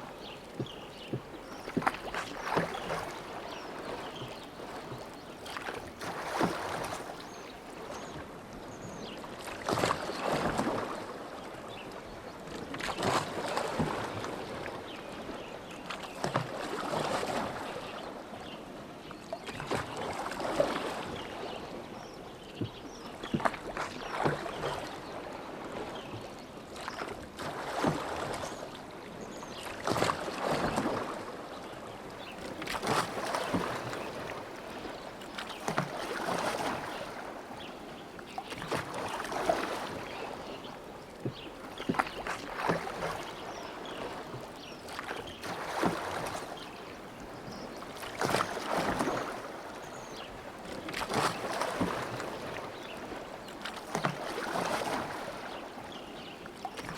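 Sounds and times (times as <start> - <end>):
oars splashing in water: 0.0 - 18.6, 19.4 - 56.9.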